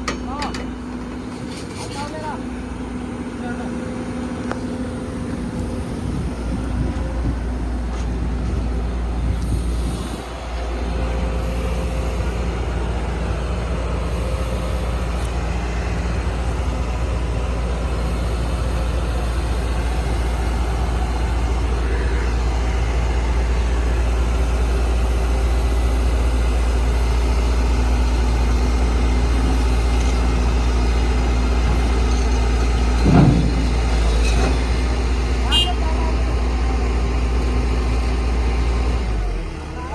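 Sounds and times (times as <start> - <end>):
heavy diesel engine rumbling: 0.0 - 39.9.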